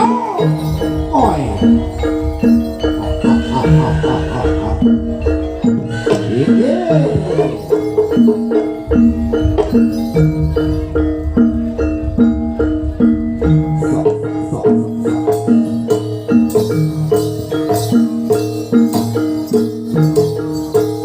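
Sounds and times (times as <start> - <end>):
gamelan metal mallet instruments: 0.0 - 21.0.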